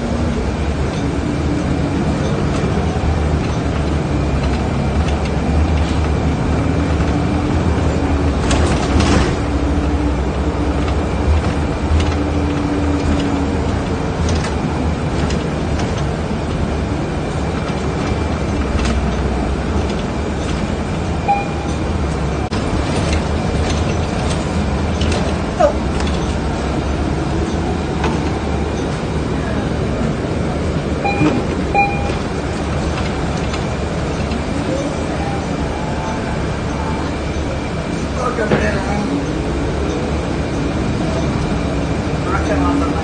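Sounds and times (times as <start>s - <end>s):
vehicle rumble: 0.0s - 43.0s.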